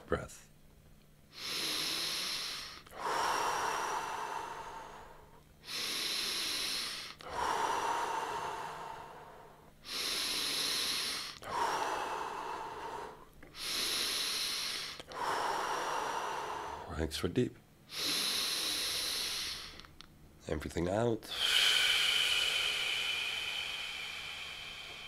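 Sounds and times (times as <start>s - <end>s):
deep breathing: 1.3s - 17.0s, 17.9s - 20.0s, 21.2s - 25.0s.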